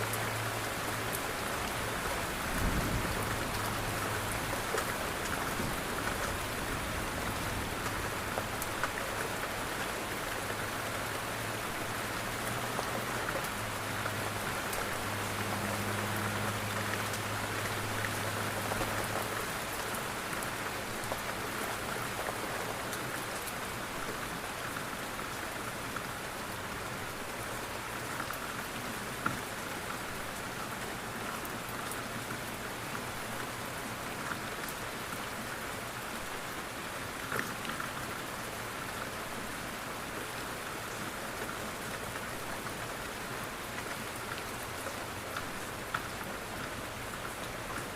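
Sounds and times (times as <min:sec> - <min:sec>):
rain on window glass: 0:00.0 - 0:47.9.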